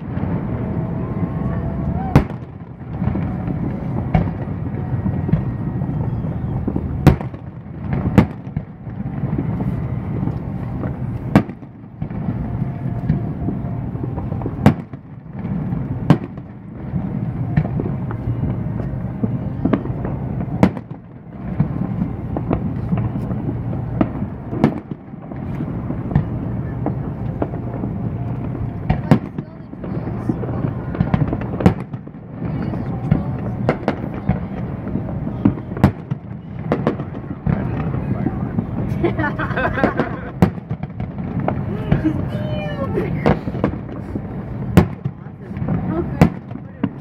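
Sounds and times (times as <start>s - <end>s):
low background rumble: 0.0s - 47.0s.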